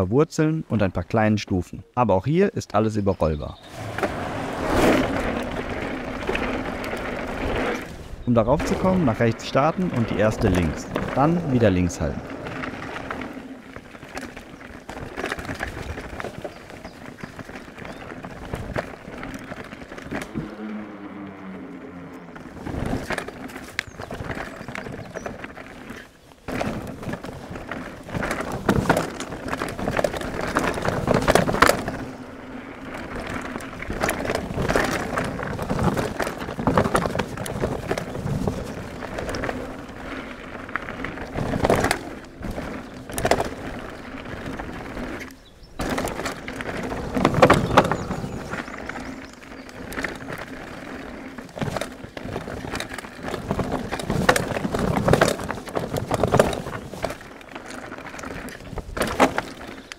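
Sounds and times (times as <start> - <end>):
bike tyres rolling over loose stones: 2.7 - 59.9
bike knocking and rattling: 3.5 - 59.9.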